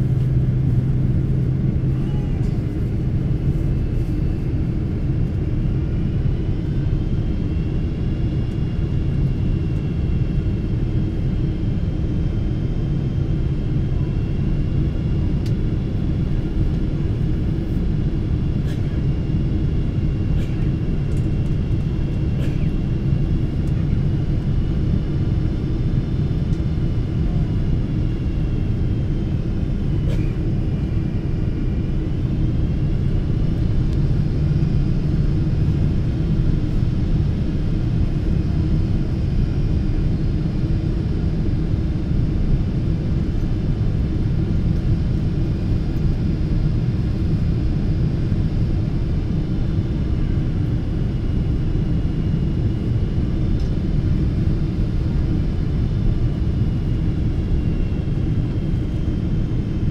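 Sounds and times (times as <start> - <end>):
airliner cabin engine rumble: 0.0 - 59.9
faint high engine whine: 0.0 - 59.9.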